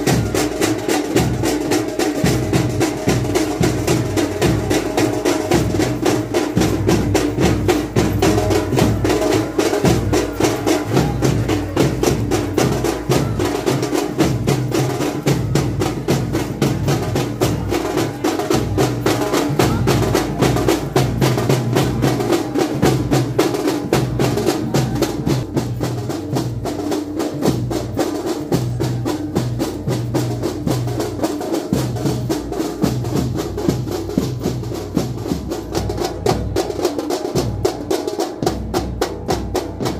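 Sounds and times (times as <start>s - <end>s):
drums beaten with sticks: 0.0s - 39.9s.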